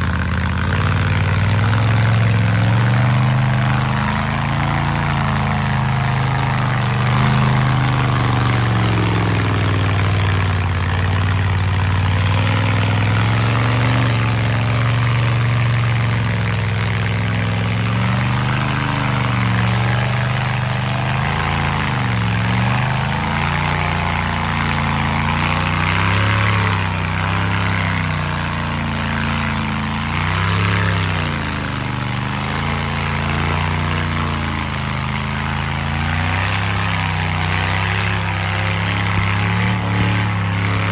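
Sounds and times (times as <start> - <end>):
truck engine running under load: 0.0 - 40.9.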